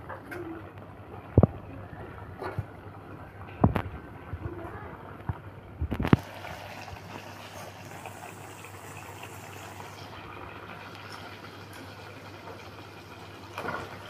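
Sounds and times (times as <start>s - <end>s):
noodles simmering in broth: 0.0s - 14.0s.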